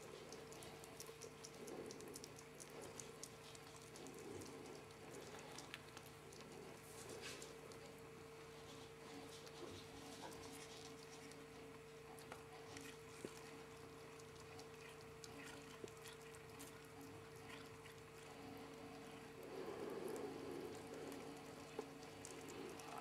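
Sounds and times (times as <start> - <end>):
animals licking paste: 0.0 - 23.0
low electrical hum: 0.0 - 23.0.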